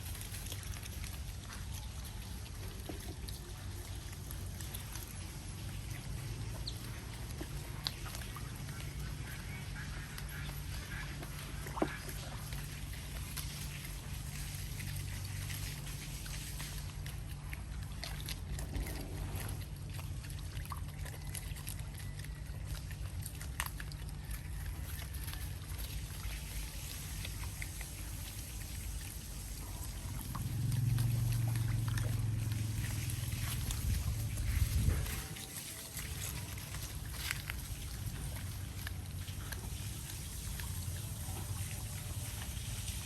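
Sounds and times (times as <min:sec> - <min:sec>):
steady low hum: 0:00.0 - 0:43.0
water trickling and splashing: 0:00.0 - 0:43.0.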